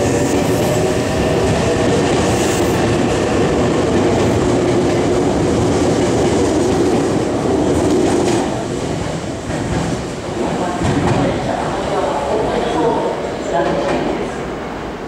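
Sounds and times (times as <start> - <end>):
electric train rolling past: 0.0 - 15.0.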